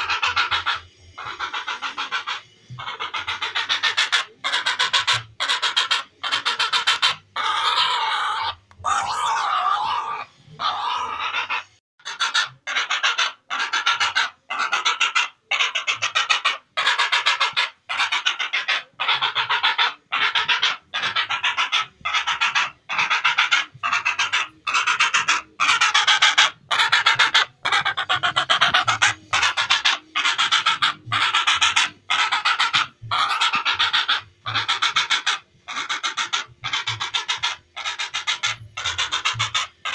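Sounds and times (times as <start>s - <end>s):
heron croaking: 0.0s - 39.9s.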